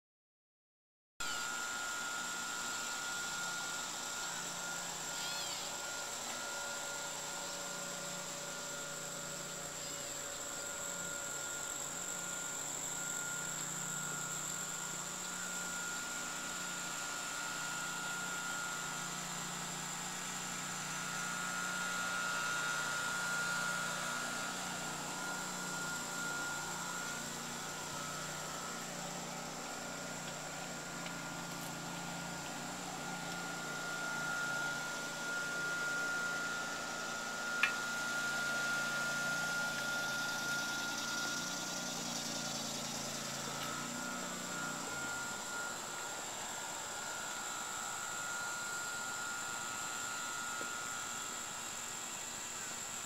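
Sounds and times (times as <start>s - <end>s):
low hum and hiss: 1.2s - 53.0s.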